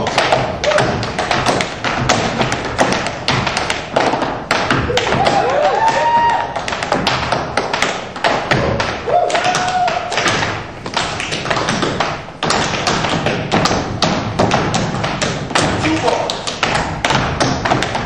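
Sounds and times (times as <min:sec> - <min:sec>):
tap shoes on stage floor: 0:00.0 - 0:18.0.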